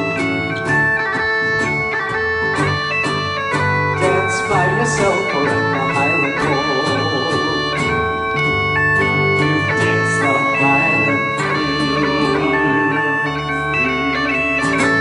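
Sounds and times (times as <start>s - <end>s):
bagpipes playing a melody: 0.0s - 15.0s
guitar accompaniment: 0.0s - 15.0s.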